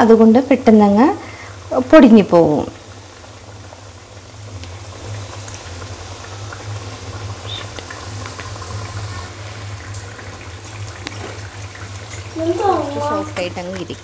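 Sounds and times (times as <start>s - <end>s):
dough deep-frying in oil: 0.0s - 14.0s.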